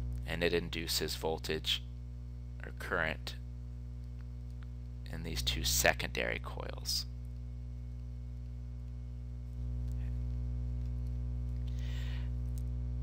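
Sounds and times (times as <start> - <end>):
low electrical mains hum: 0.0 - 13.0.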